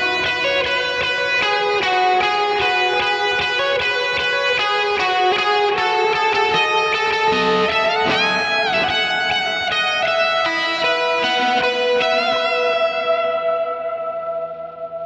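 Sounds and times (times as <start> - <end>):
electric guitar lead line: 0.0 - 15.0.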